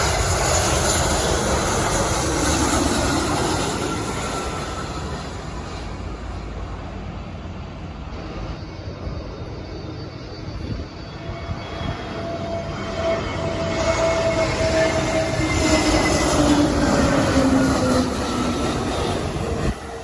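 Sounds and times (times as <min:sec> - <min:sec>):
engine whine sliding down: 0:00.0 - 0:20.0
jet airliner passing: 0:00.0 - 0:20.0.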